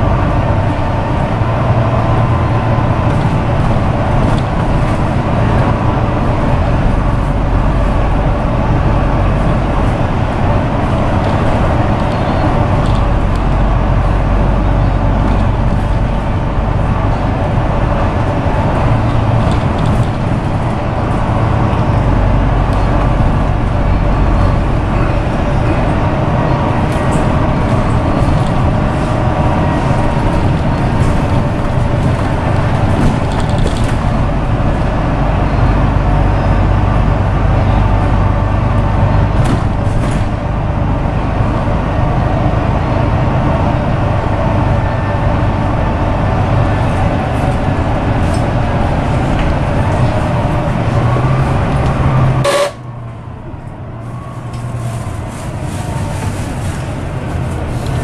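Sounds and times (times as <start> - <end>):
bus engine running: 0.0 - 58.0
road noise: 0.0 - 58.0.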